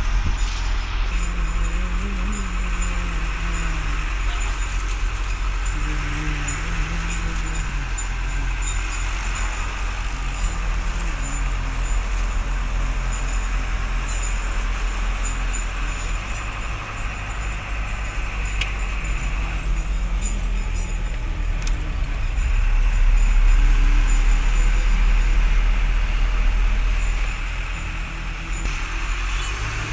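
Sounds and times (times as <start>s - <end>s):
faint rattles: 0.0s - 29.4s
truck engine and road rumble: 0.0s - 29.9s.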